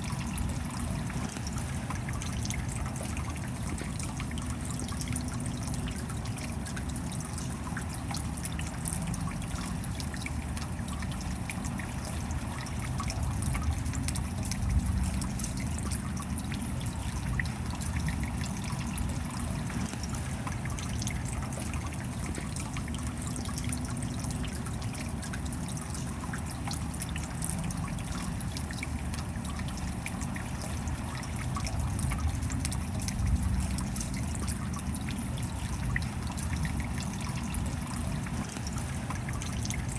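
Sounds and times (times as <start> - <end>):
steady rain: 0.0 - 39.9
water trickling and dripping: 0.0 - 39.9.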